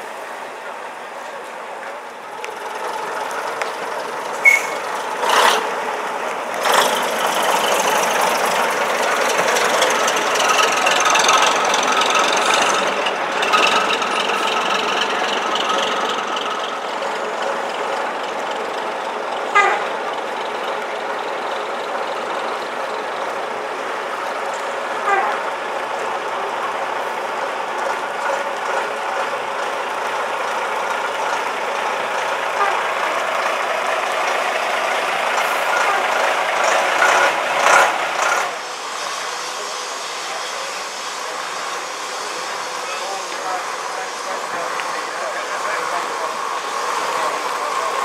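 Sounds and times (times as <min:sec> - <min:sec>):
diesel bus engine running: 0:00.0 - 0:48.0.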